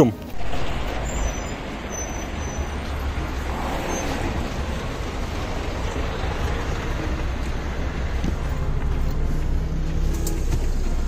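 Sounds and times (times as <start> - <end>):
street traffic noise: 0.0 - 11.0
bus engine idling: 0.2 - 11.0.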